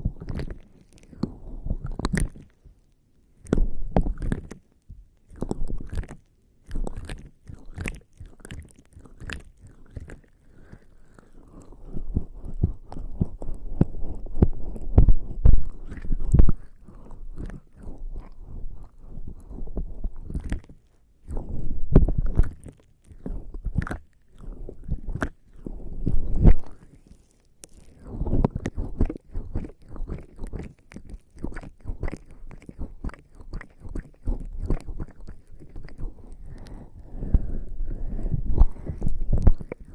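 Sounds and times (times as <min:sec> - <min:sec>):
wet squelching skin rubbing microphone: 0:05.4 - 0:39.9.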